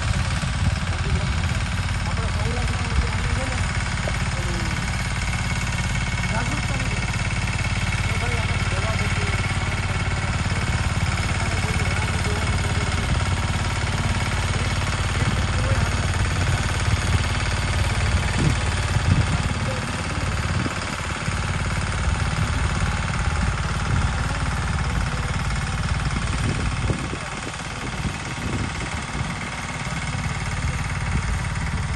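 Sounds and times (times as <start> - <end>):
engine knocks: 0.0 - 31.9
tractor diesel engine running: 0.0 - 31.9.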